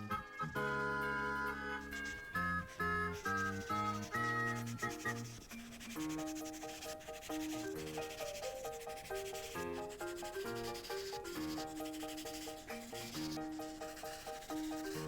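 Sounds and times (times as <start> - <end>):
light background music: 0.0 - 15.0
marker rubbing on paper: 1.7 - 15.0.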